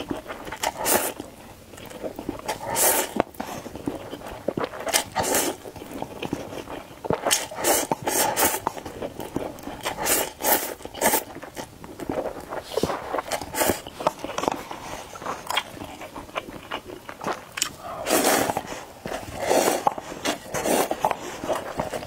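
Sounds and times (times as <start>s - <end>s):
slurping noodles: 0.0s - 1.4s, 2.2s - 16.8s, 17.6s - 22.0s
chewing: 0.0s - 22.0s.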